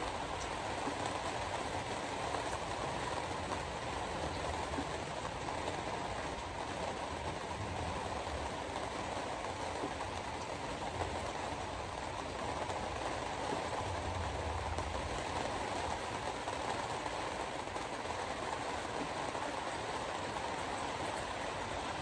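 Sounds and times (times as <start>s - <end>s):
rain on car: 0.0s - 22.0s
tyres hissing on wet road: 0.0s - 22.0s.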